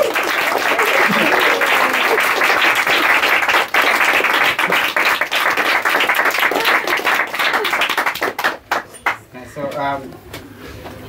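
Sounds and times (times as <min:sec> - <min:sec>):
small audience applauding: 0:00.0 - 0:09.3.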